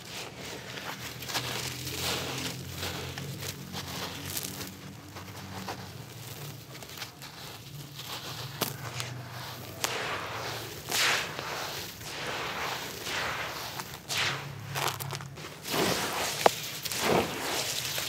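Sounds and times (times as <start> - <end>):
wet gritty block crunching: 0.0 - 18.0.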